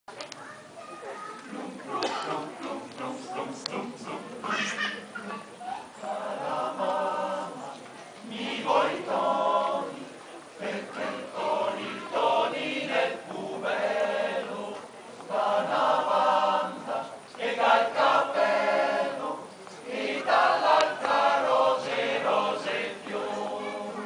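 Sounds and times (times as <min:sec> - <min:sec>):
male choir singing a cappella: 0:01.5 - 0:24.0.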